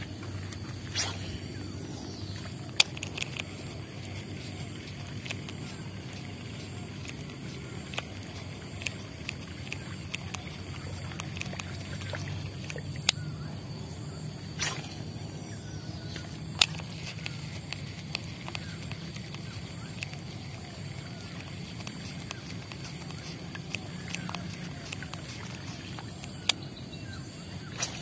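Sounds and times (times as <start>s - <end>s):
sharp clicks: 0.0s - 13.3s, 16.0s - 26.7s
fishing reel ticking: 0.0s - 28.0s.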